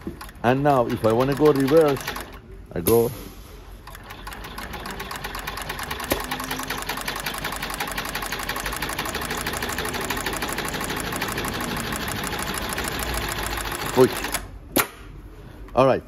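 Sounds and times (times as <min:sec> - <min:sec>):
industrial sewing machine stitching: 0:00.0 - 0:02.4, 0:03.8 - 0:14.5.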